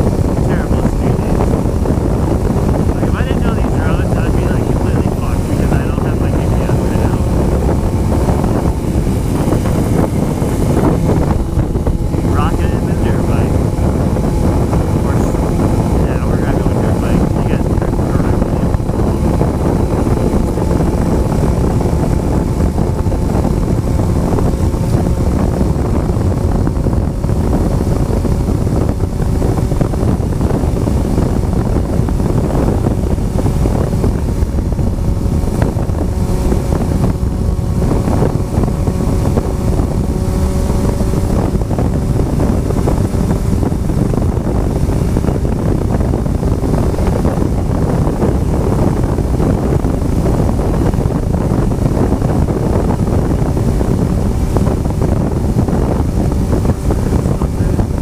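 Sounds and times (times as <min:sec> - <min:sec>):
motorcycle engine cruising: 0:00.0 - 0:58.0
wind buffeting microphone: 0:00.0 - 0:58.0.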